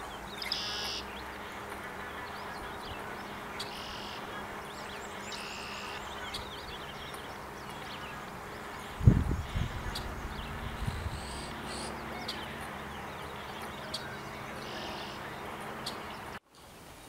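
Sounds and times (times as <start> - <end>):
blackbird buzzy trilled song: 0.0 - 16.4
steady outdoor hiss: 0.0 - 17.0
faint bird chirps: 0.1 - 16.4.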